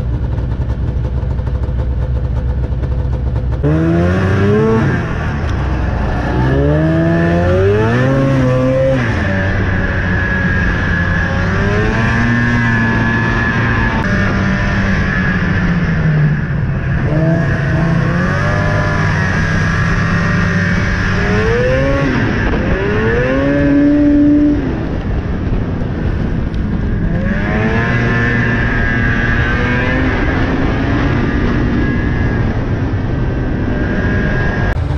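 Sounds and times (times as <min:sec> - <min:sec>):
snowmobile engine revving: 0:02.7 - 0:25.0, 0:26.0 - 0:34.9.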